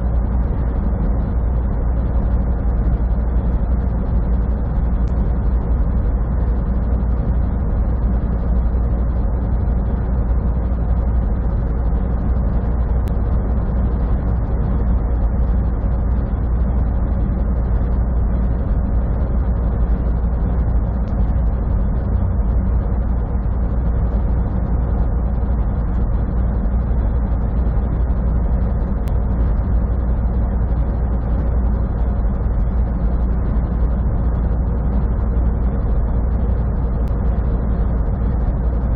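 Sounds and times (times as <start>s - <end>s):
truck diesel engine drone: 0.0s - 38.9s.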